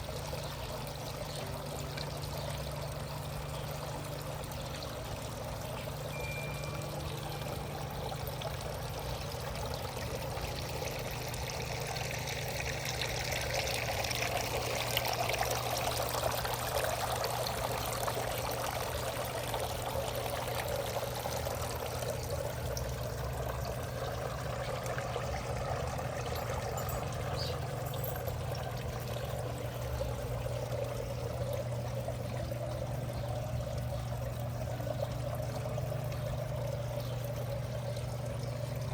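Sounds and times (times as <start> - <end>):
steady low hum: 0.0 - 38.9
water running and pouring: 0.0 - 38.9.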